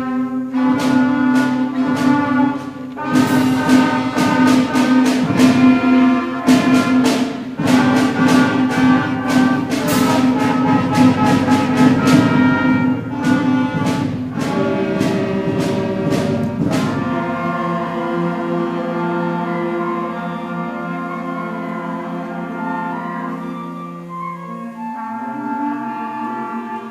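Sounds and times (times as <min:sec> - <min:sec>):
percussion strikes: 0:00.0 - 0:23.5
sustained wind chords: 0:00.0 - 0:26.9.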